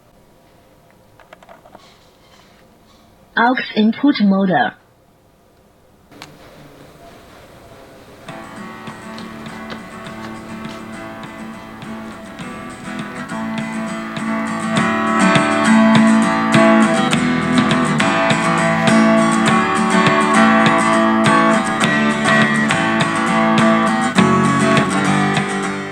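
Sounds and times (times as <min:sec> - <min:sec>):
acoustic guitar music through speaker: 0:03.4 - 0:04.7, 0:06.2 - 0:25.9.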